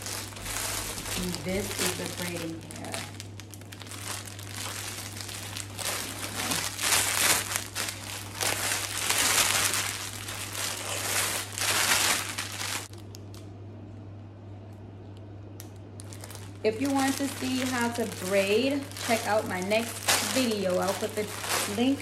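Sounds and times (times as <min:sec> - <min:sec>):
plastic wrapping crinkling: 0:00.0 - 0:13.5, 0:15.6 - 0:22.0.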